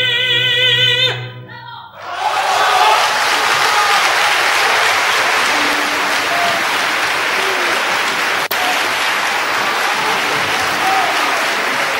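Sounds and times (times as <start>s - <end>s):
audience applauding: 2.1s - 11.9s.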